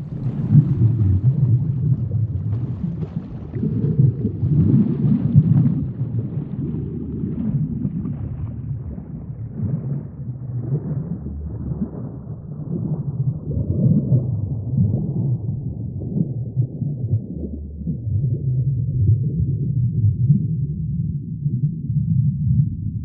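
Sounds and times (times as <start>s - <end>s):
gurgling bubbles: 0.0s - 23.0s
muffled underwater rumble: 0.0s - 23.0s.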